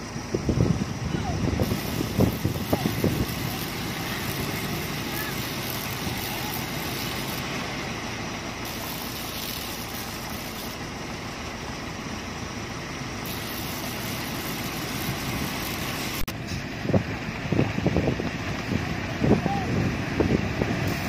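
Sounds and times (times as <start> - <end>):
concrete mixer truck engine: 0.0 - 21.0
excavator engine: 0.0 - 21.0.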